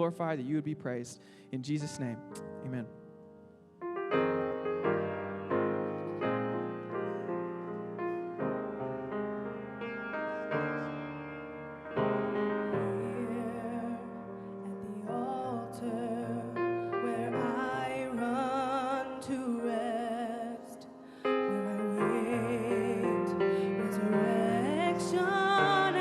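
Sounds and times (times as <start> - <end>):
piano playing a slow song: 0.0 - 26.0.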